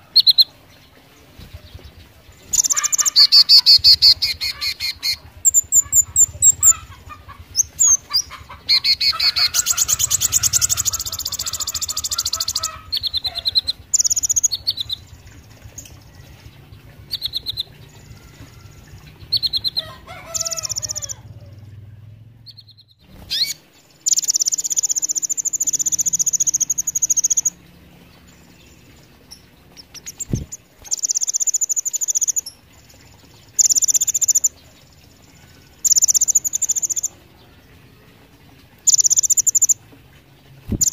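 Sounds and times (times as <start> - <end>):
bird chirps: 0.0 - 37.5, 38.8 - 39.8, 40.7 - 40.9
bird singing high trills: 2.0 - 37.2, 38.8 - 39.8.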